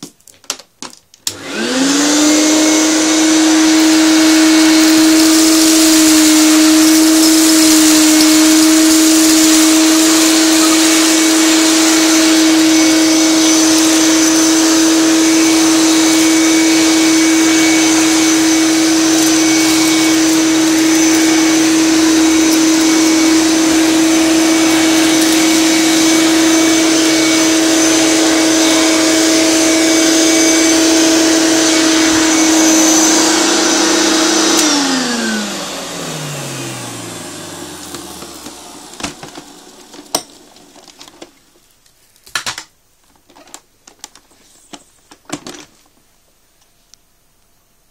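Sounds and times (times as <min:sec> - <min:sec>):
vacuum cleaner motor whining: 0:01.2 - 0:41.6.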